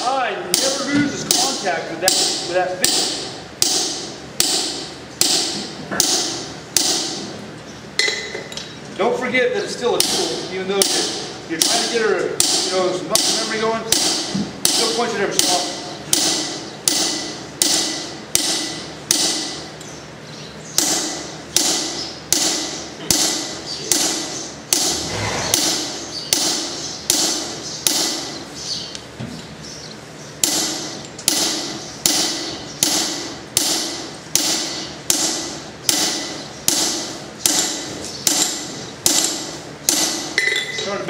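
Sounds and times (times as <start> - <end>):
hammer striking metal on anvil: 0.5 - 7.3, 10.0 - 19.7, 20.8 - 28.4, 30.4 - 40.9.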